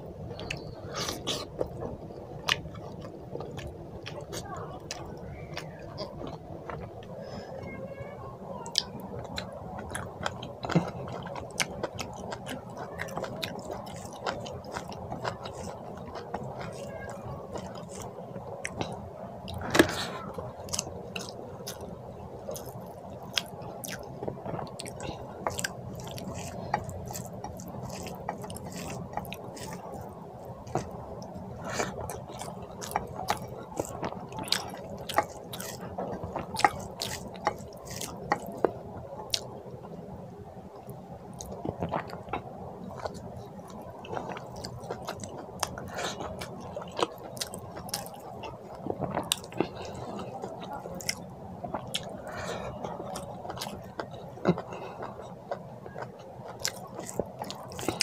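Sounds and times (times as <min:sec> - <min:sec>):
chewing: 0:00.3 - 0:07.1, 0:08.7 - 0:40.0, 0:40.8 - 0:58.0
wet squishing of food by hand: 0:08.8 - 0:39.5, 0:40.9 - 0:58.0.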